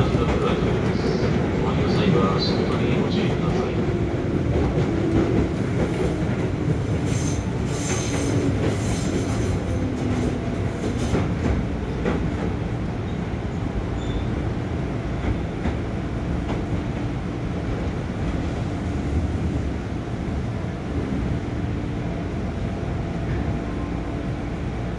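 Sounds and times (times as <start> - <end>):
train wheels rumbling on rail: 0.0 - 24.9.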